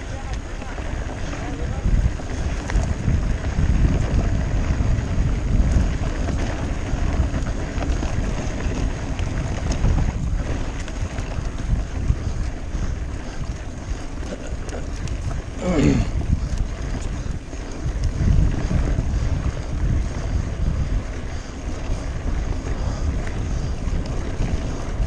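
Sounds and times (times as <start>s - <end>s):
bike clicks and rattles: 0.0s - 25.0s
bike tyres rumbling on dirt: 0.0s - 25.0s
wind over microphone: 0.0s - 25.0s.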